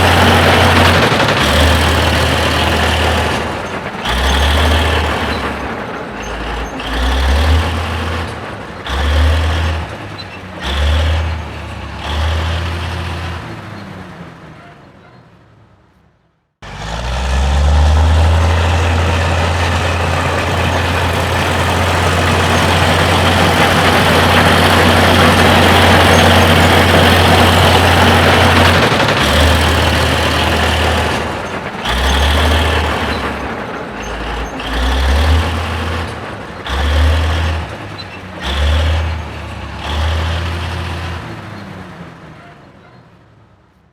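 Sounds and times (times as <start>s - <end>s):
diesel engine running and revving: 0.0s - 14.9s, 16.6s - 43.6s.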